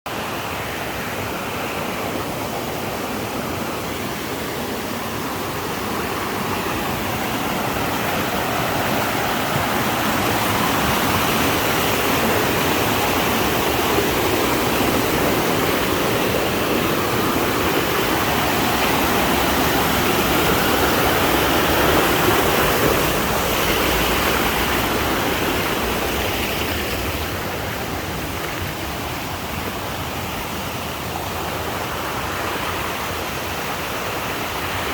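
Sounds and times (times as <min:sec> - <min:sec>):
stream rushing: 0:00.1 - 0:34.9.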